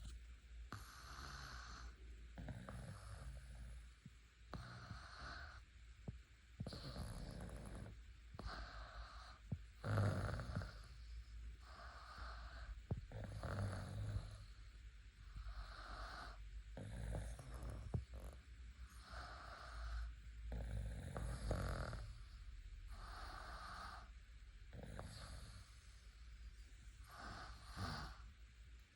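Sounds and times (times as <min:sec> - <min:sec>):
snoring: 0:00.7 - 0:24.1, 0:24.7 - 0:25.9, 0:27.0 - 0:28.3.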